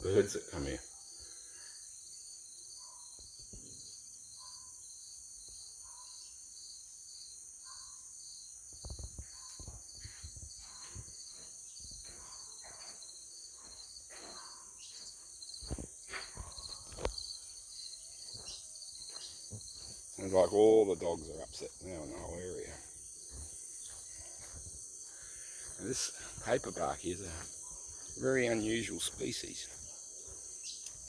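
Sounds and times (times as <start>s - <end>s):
insect chorus chirping: 0.0s - 31.0s
dogs barking in the distance: 2.6s - 3.6s, 4.3s - 5.0s, 5.6s - 6.4s, 7.6s - 8.2s, 9.2s - 31.0s.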